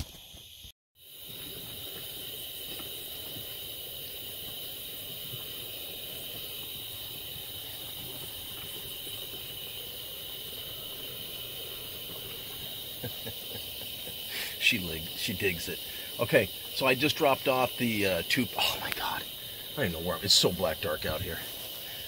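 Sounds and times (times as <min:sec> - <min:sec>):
night insects droning: 0:00.0 - 0:22.0.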